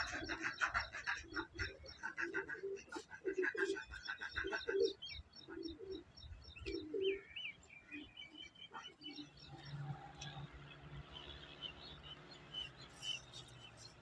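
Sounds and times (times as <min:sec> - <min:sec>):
doves cooing: 0:00.0 - 0:11.6
small birds chirping: 0:00.0 - 0:14.0.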